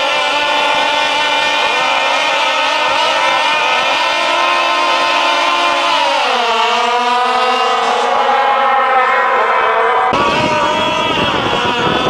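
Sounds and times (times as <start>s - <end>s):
two-stroke engines at high revs: 0.0s - 12.0s.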